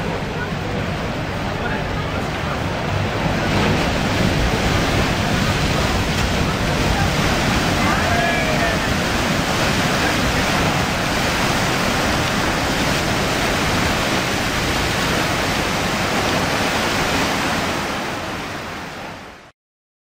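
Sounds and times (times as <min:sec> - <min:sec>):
paddle wheels churning water: 0:00.0 - 0:19.5.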